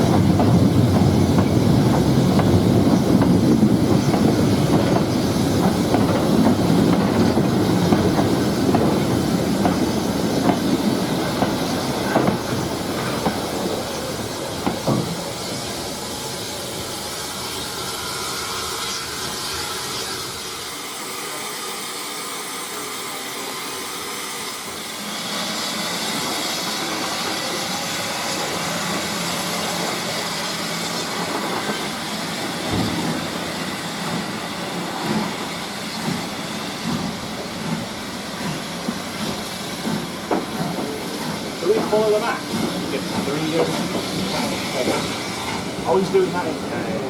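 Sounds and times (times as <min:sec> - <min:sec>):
steam hissing: 0:00.0 - 0:47.0
train running: 0:00.0 - 0:47.0.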